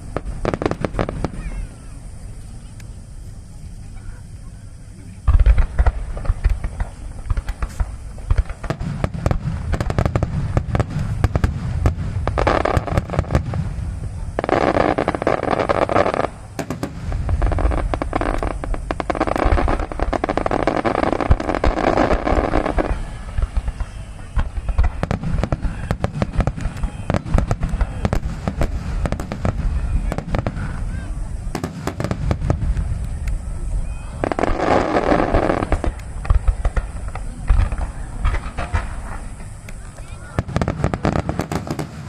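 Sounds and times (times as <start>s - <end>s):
firework shells bursting: 5.3s - 42.0s.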